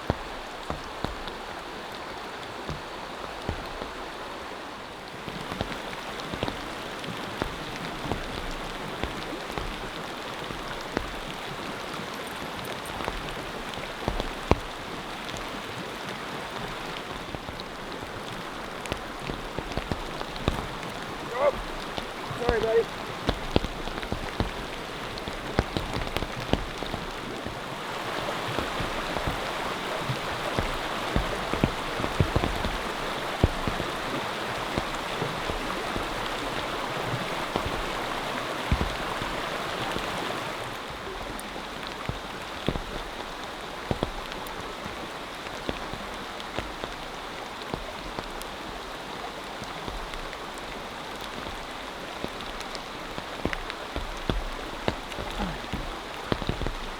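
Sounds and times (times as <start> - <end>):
rain drops ticking: 0.0 - 56.9.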